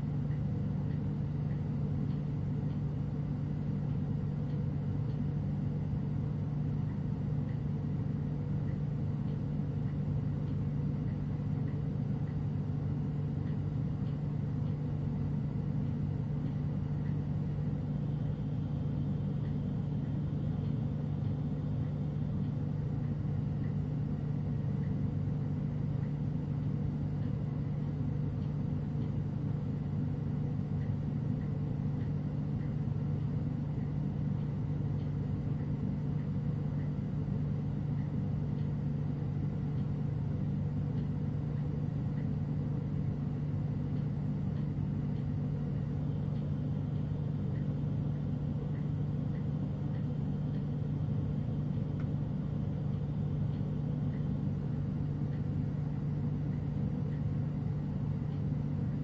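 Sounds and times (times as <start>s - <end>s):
constant hum: 0.0s - 59.0s.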